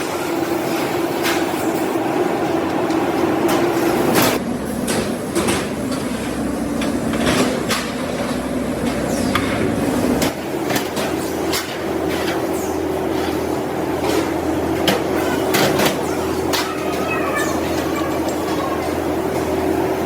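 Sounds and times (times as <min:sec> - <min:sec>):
workshop machinery humming: 0:00.0 - 0:20.0.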